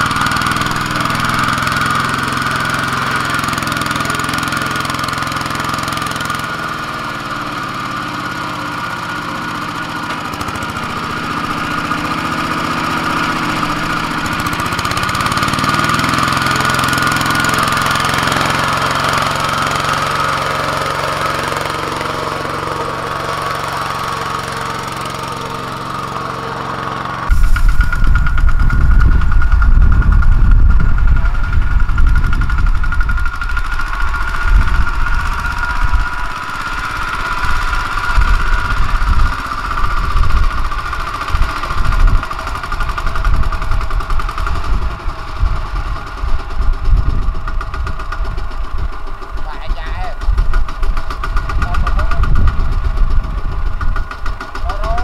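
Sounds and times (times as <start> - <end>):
diesel tractor engine chugging: 0.0 - 55.0
tractor engine low rumble: 0.0 - 55.0.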